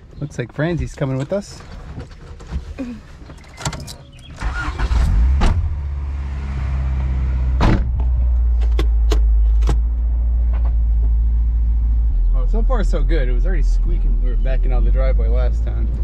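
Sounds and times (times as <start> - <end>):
car engine starting and idling: 2.8 - 16.0.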